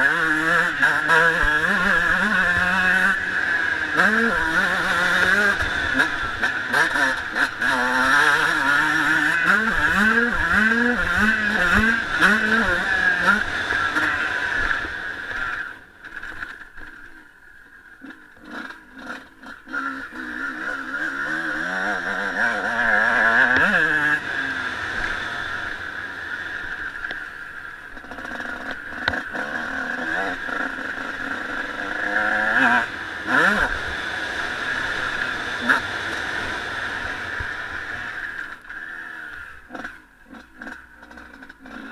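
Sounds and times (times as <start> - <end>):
motocross engine revving hard: 0.0 - 15.9, 18.0 - 41.9.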